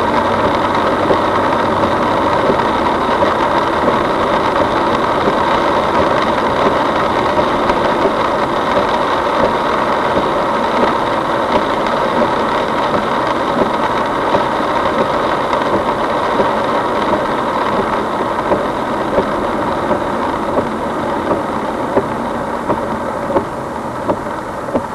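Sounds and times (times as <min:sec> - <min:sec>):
car engine and road noise: 0:00.0 - 0:24.9
wind and rain: 0:00.0 - 0:24.9.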